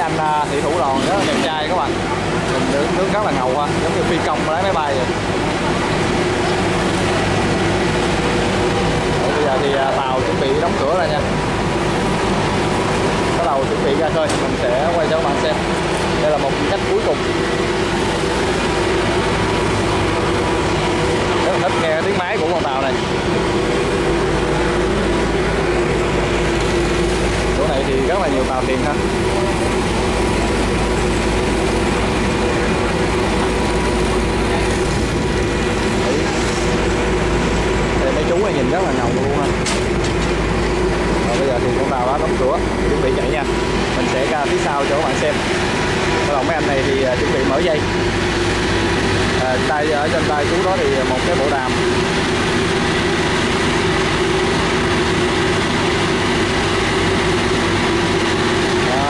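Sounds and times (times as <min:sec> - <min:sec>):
boat engines idling: 0:00.0 - 0:59.0.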